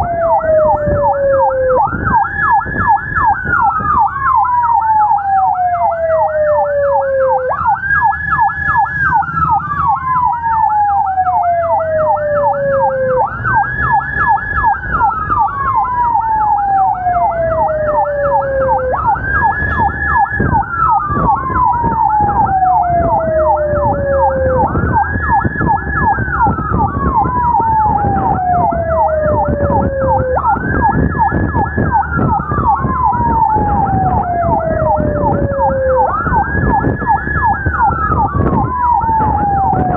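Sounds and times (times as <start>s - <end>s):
engine and road rumble: 0.0s - 39.9s
siren fast yelp: 0.0s - 39.9s
siren slow wail: 0.0s - 39.9s.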